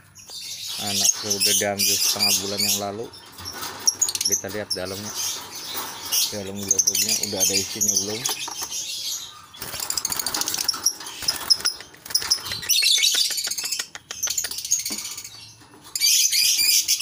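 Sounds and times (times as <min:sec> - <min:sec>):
lovebirds chattering: 0:00.0 - 0:17.0
wings fluttering in cage: 0:00.9 - 0:08.7, 0:09.6 - 0:17.0.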